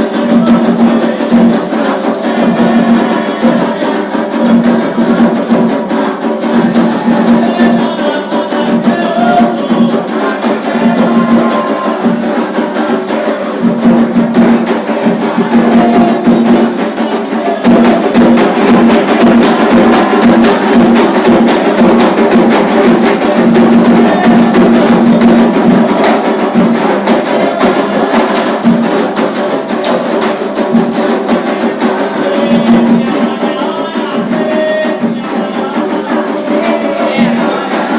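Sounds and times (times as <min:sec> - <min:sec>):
hand drums: 0:00.0 - 0:37.9.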